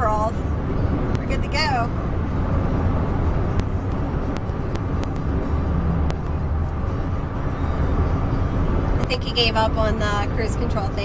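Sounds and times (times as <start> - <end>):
road noise inside a truck cab: 0.0 - 11.0.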